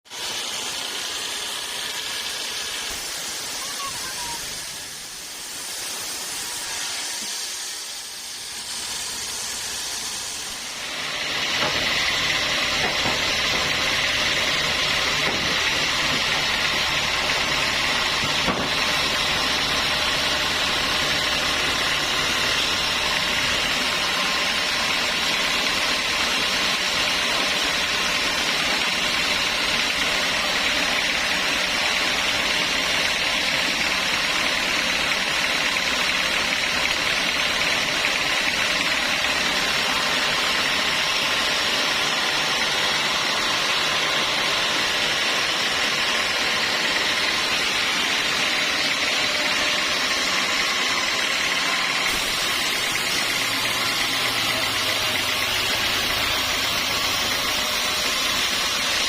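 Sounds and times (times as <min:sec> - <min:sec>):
sawmill saw hissing: 0:00.0 - 0:59.0.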